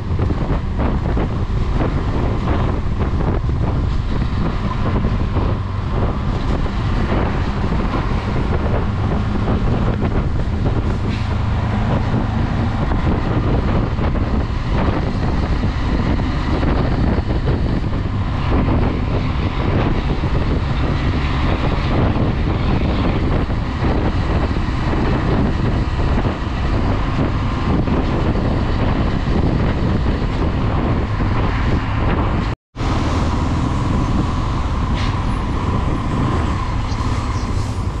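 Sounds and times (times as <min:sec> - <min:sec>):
wind noise on microphone: 0:00.0 - 0:38.0.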